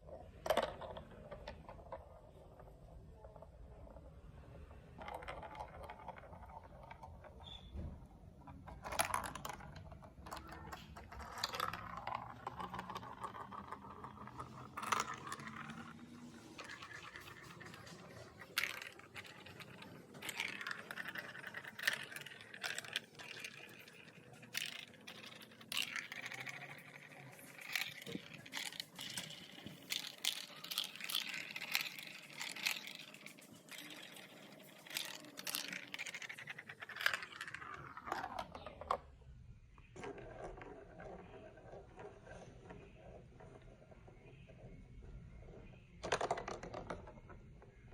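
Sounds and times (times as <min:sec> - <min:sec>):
marbles clicking and knocking: 0:00.0 - 0:04.1, 0:05.0 - 0:39.1, 0:45.5 - 0:47.9
marbles rolling on plastic track: 0:00.0 - 0:39.2, 0:39.9 - 0:47.9.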